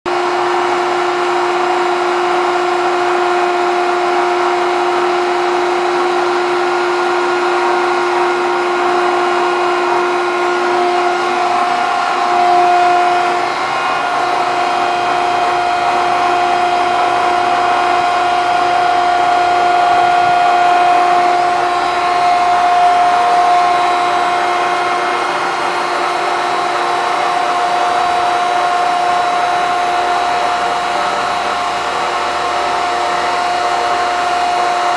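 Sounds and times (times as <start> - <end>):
grinder machine whine: 0.1 - 34.9.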